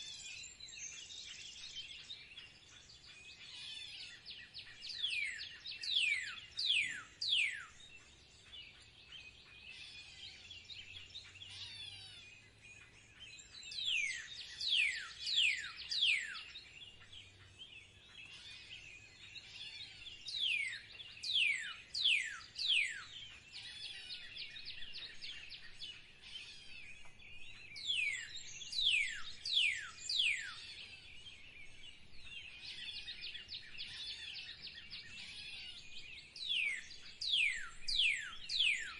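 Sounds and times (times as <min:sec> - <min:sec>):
birds twittering chirps: 0:00.0 - 0:38.9.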